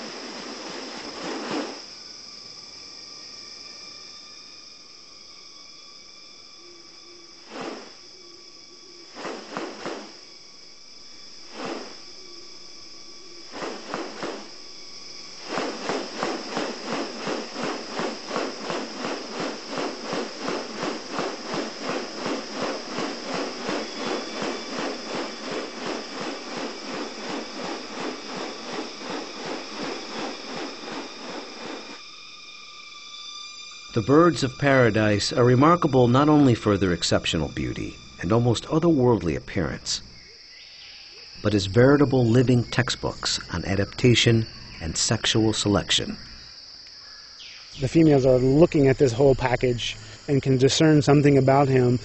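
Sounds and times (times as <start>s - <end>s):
high-pitched insect drone: 0.0s - 52.0s.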